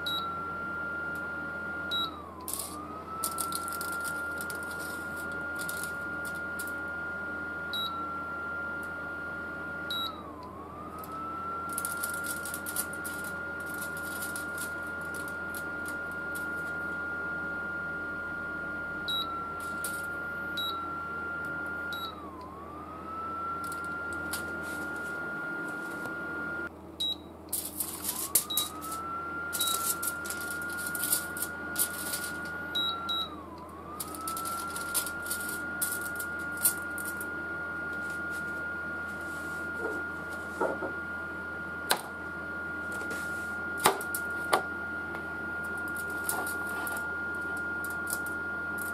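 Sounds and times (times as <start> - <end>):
cooling fan hum: 0.0 - 48.9
induction cooker whining: 0.0 - 48.9.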